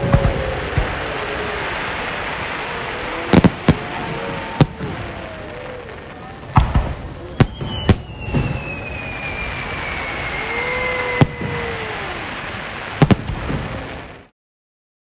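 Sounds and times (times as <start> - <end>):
firework whistle sliding down: 0.0 - 14.1
firework bangs: 0.0 - 14.3
steady hiss: 0.0 - 14.3.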